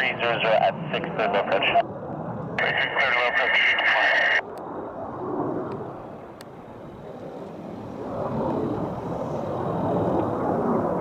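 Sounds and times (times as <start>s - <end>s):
distant jet engine roar: 0.0s - 11.0s.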